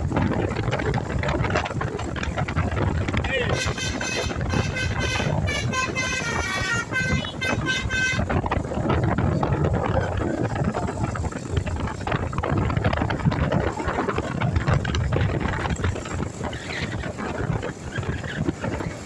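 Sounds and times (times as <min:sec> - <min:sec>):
road vehicle rumble: 0:00.0 - 0:19.0
wind buffeting microphone: 0:00.0 - 0:19.0.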